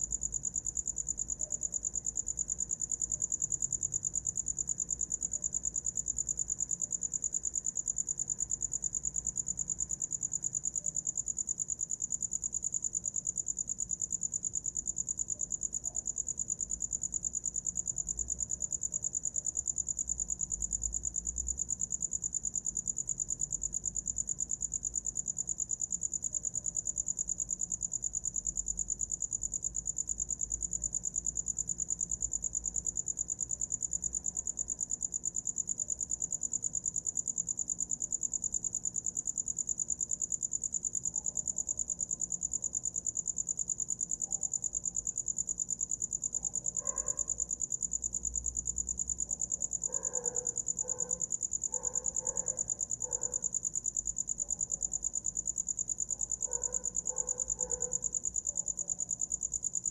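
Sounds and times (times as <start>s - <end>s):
cricket chirping trill: 0.0s - 59.9s.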